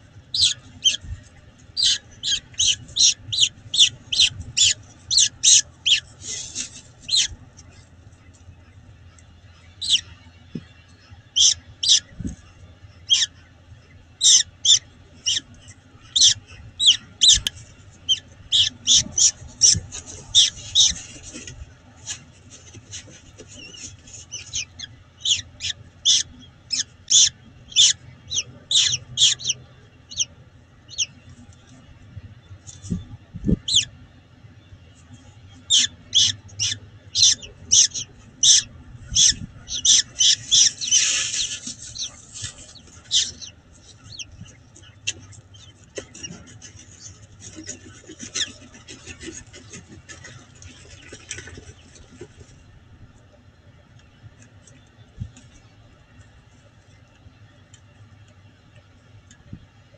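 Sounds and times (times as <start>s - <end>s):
faint low hum: 0.0s - 59.9s
falcon chick peeping: 0.1s - 59.9s.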